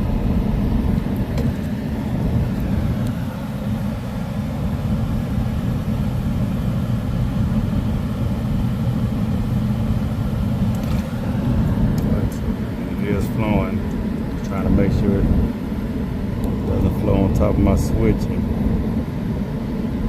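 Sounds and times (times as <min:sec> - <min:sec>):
air conditioner low rumble: 0:00.0 - 0:20.0.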